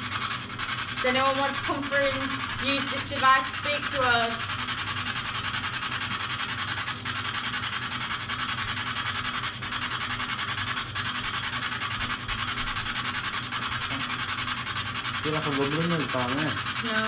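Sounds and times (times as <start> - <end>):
pulsing radio static: 0.0 - 17.0.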